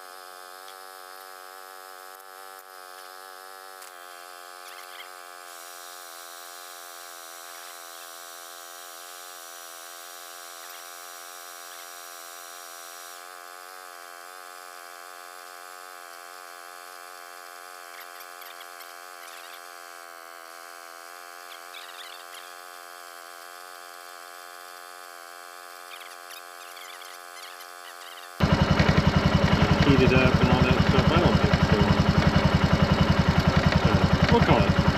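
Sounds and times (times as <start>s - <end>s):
faint buzzing hum: 0.0s - 34.9s.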